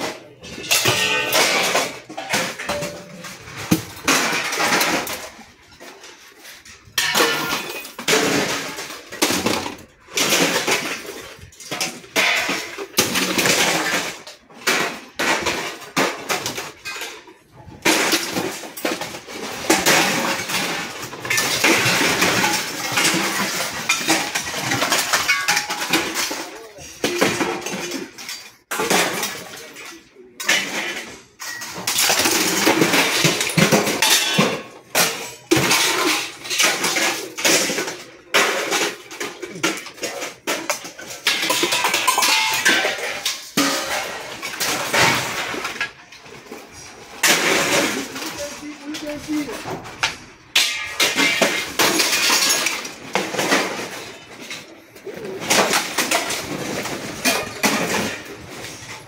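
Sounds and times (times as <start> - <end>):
hard objects clattering and clinking: 0.0 - 59.0.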